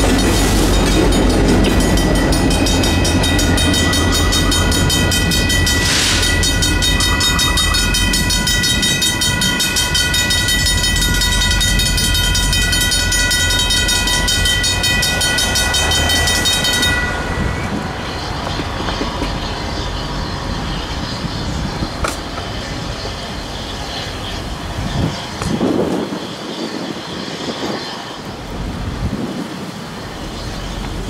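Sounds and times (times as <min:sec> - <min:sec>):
crossing bells ringing: 0:00.0 - 0:25.4
freight train rumble: 0:00.0 - 0:31.0
street traffic: 0:00.0 - 0:31.0.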